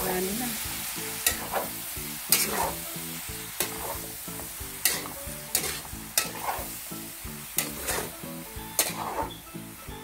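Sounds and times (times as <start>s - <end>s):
food sizzling: 0.0s - 10.0s
metal spatula scraping a wok: 1.1s - 9.7s.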